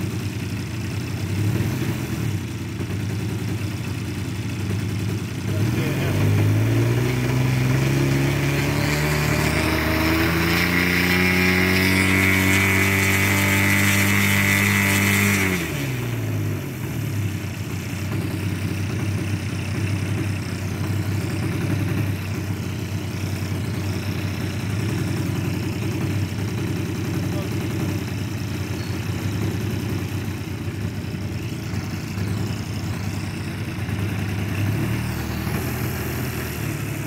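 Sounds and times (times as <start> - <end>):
model plane engine revving and idling: 0.0 - 37.0.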